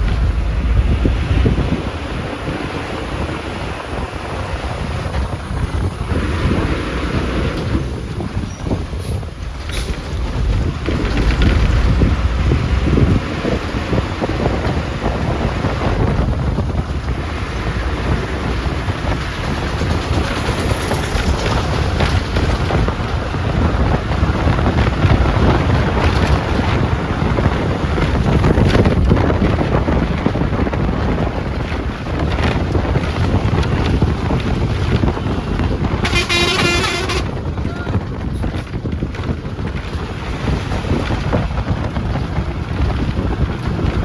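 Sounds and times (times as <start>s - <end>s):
bus engine and road rumble: 0.0s - 44.0s
wind buffeting microphone: 0.0s - 44.0s.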